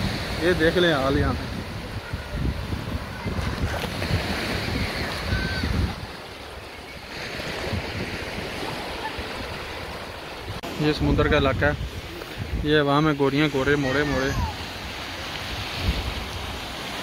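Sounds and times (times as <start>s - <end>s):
small waves washing onto sand: 0.0s - 17.0s
wind rumbling on microphone: 0.0s - 17.0s.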